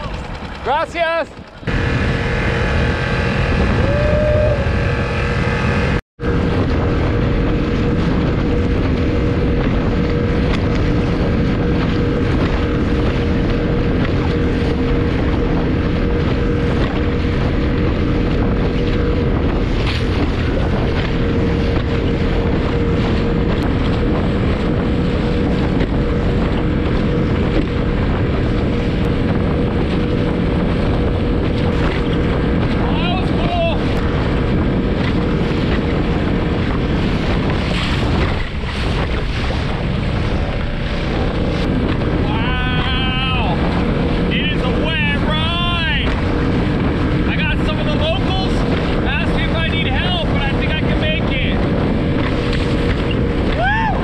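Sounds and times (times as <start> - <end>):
outboard motor running: 0.0 - 54.0
wind buffeting microphone: 0.0 - 54.0.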